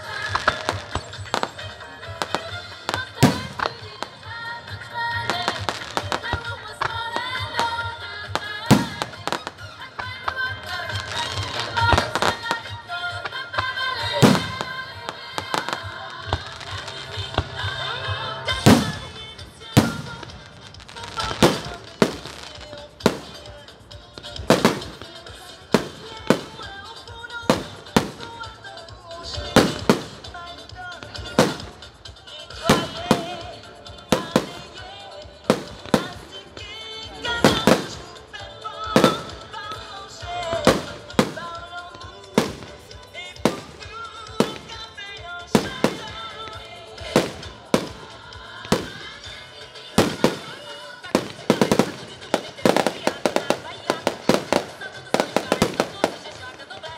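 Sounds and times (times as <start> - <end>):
fireworks bursting with sharp bangs: 0.0 - 56.9
music: 0.0 - 56.9.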